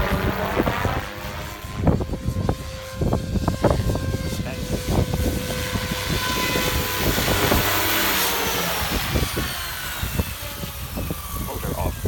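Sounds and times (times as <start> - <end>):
rc helicopter motor whine: 0.0 - 12.0
wind buffeting microphone: 0.0 - 12.0.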